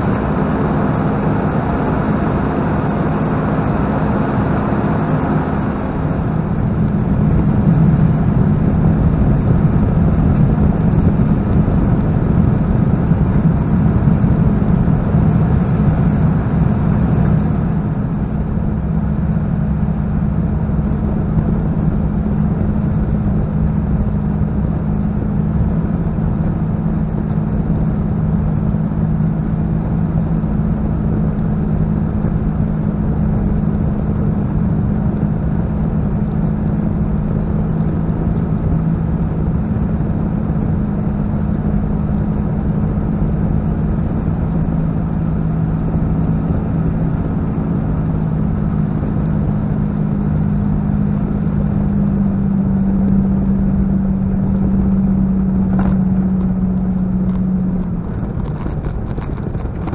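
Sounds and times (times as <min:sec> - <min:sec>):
aircraft engine running steadily: 0:00.0 - 0:59.9.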